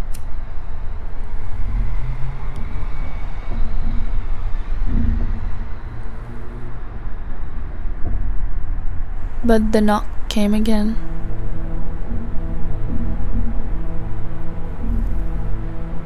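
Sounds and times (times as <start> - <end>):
deep low rumble: 0.0 - 9.5, 11.0 - 16.0.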